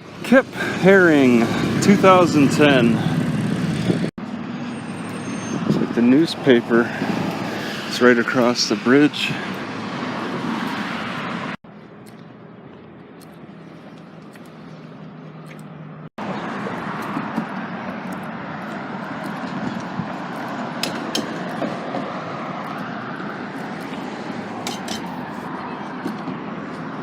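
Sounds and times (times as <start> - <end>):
passing cars: 0.0 - 27.0.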